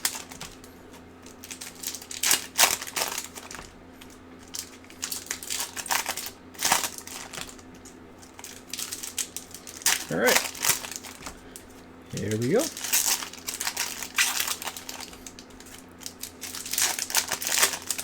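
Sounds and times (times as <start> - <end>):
faint electrical hum: 0.0 - 18.0
plastic wrapper crinkling: 1.2 - 3.7, 4.4 - 7.6, 8.2 - 18.0.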